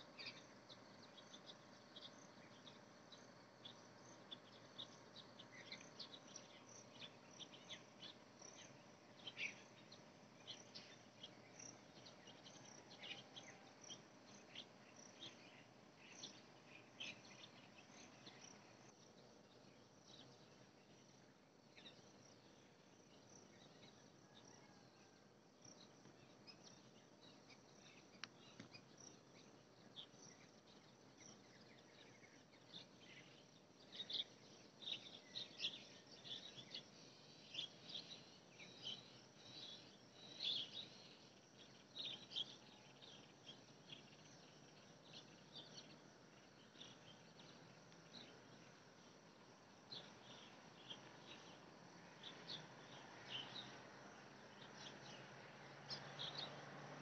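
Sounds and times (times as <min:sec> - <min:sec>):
low steady hiss: 0:00.0 - 0:57.0.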